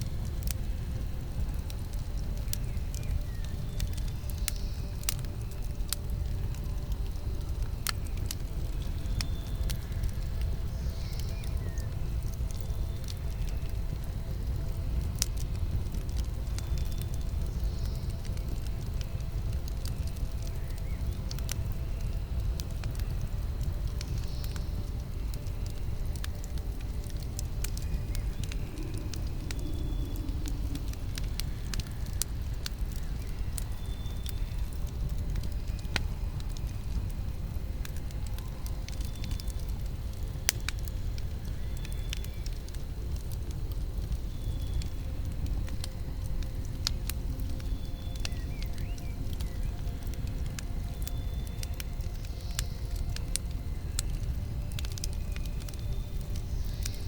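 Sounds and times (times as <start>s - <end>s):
campfire rumble: 0.0s - 57.0s
fire crackles and pops: 0.0s - 57.0s.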